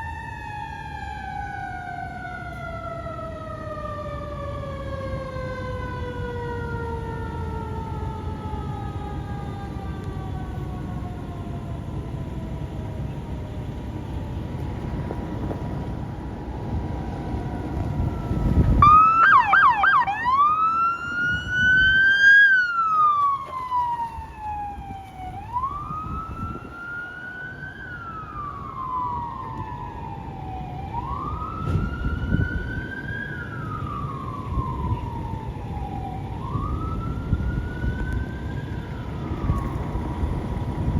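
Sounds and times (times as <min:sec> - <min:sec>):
fire engine sirens wailing: 0:00.0 - 0:40.9
low vehicle rumble: 0:00.5 - 0:40.9.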